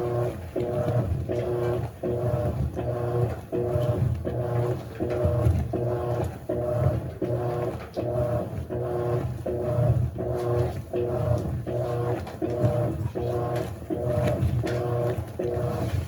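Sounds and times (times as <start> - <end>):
washing machine motor whining: 0.0 - 16.0.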